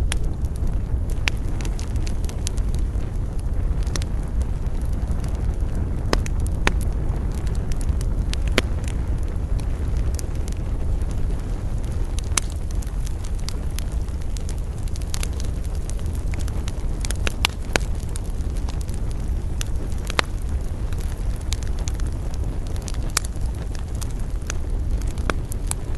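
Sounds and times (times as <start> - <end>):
rumble of fire flames: 0.0 - 25.9
wood fire crackling and popping: 0.0 - 25.9.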